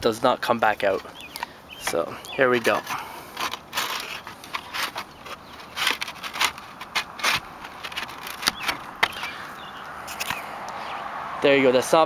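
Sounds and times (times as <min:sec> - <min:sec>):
metal shim scraping against wood: 0:00.7 - 0:10.4.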